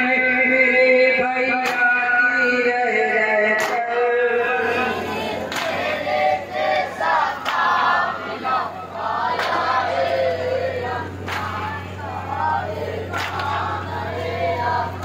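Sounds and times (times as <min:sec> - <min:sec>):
crowd chanting in chorus: 0:01.2 - 0:15.0.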